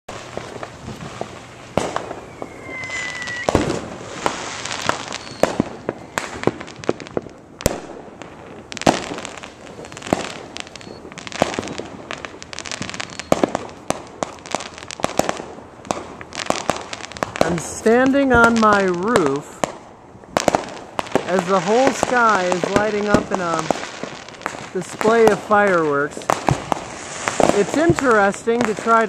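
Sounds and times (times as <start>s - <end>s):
fireworks bangs pops and crackles: 0.1s - 29.0s.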